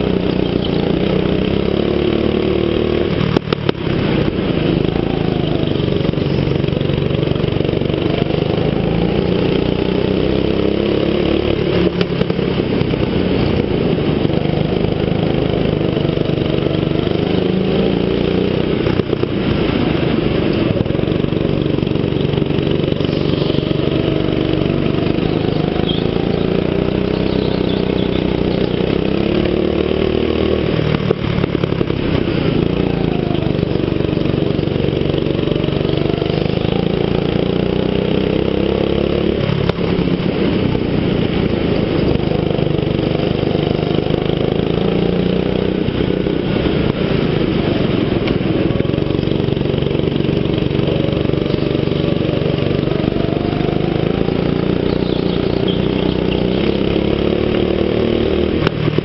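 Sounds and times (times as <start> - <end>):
go-kart engine racing: 0.0 - 59.0.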